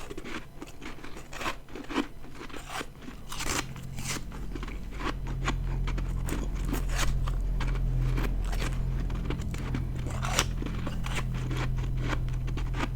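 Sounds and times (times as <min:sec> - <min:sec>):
ice being chewed: 0:00.0 - 0:12.9
steady low hum: 0:00.0 - 0:12.9.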